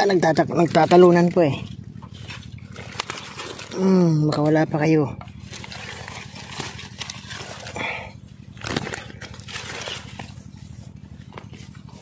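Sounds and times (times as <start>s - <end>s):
steady low hum: 0.0s - 12.0s
bag rustling: 0.1s - 12.0s.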